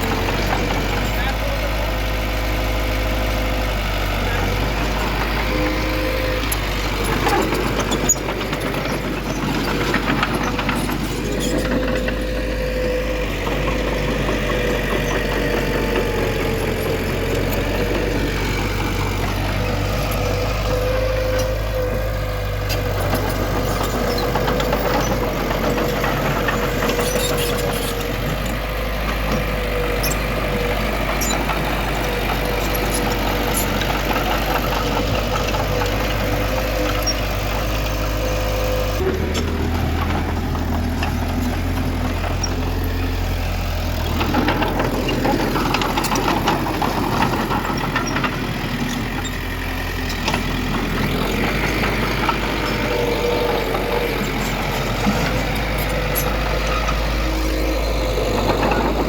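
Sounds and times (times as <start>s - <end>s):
diesel machinery engine drone: 0.0s - 59.0s
machinery clanks: 4.2s - 59.0s.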